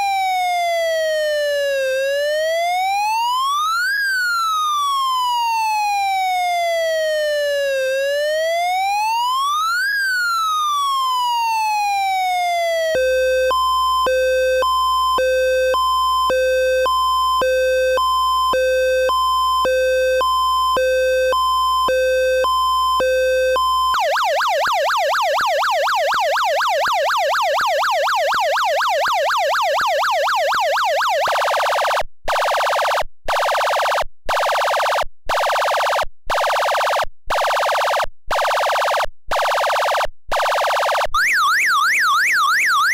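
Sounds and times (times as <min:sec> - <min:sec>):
electronic siren wailing: 0:00.0 - 0:42.9
fast warbling siren: 0:00.0 - 0:42.9
rapid machine-gun siren rattle: 0:00.0 - 0:42.9
two-tone hi-lo siren: 0:00.0 - 0:42.9.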